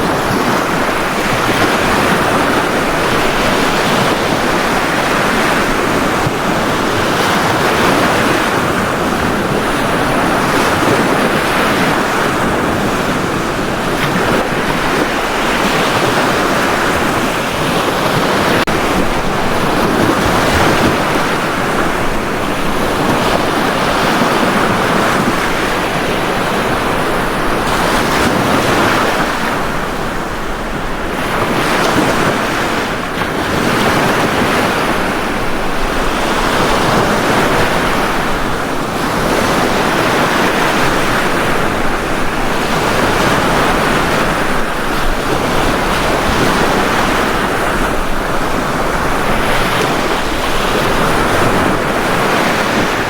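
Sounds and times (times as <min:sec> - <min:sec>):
sea waves breaking on a beach: 0:00.0 - 0:53.0.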